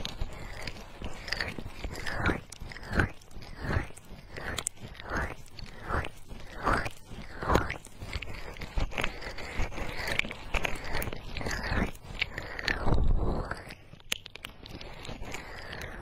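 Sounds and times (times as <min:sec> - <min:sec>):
fingers rubbing microphone: 0:00.0 - 0:16.0.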